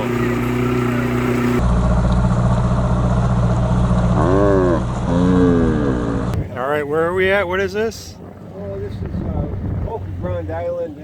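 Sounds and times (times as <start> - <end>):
outboard motor running: 0.0 - 11.0
water noise: 0.0 - 11.0
wind: 0.0 - 11.0.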